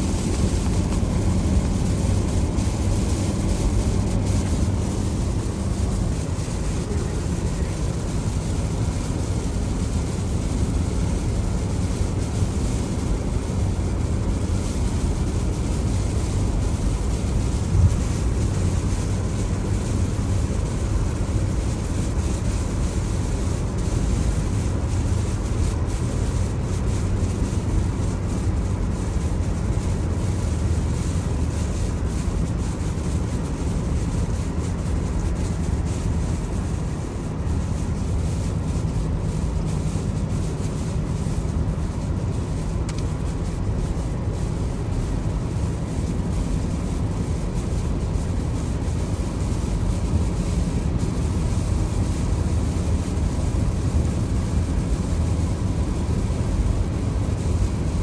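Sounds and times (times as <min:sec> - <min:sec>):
car tyres and engine rumble: 0:00.0 - 0:58.0
rain and water hiss: 0:00.0 - 0:58.0.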